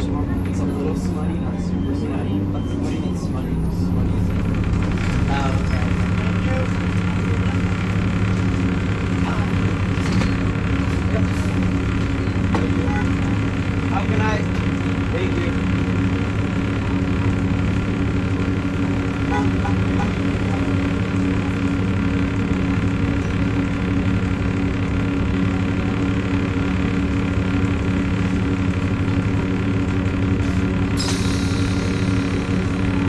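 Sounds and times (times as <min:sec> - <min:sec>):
bus engine drone with grinding: 0:00.0 - 0:33.0.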